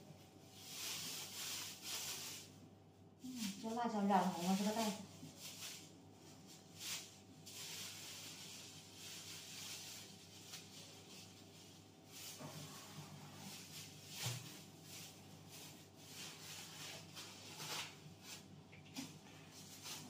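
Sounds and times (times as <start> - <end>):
plastic bags crinkling: 0.2 - 20.0.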